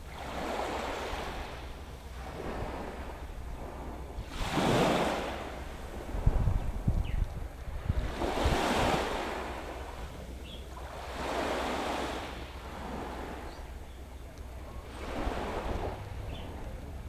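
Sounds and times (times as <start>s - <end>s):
small waves washing onto sand: 0.0s - 17.0s
wind rumble on microphone: 0.0s - 17.0s.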